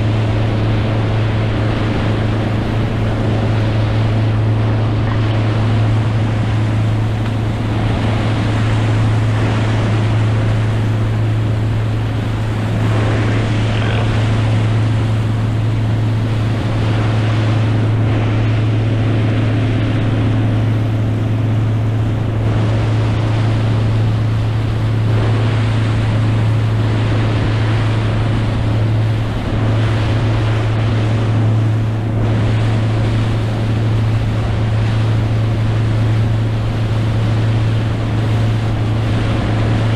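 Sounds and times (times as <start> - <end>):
motorboat engine droning: 0.0 - 39.9
water rushing past hull: 0.0 - 39.9
wind on microphone: 0.0 - 39.9.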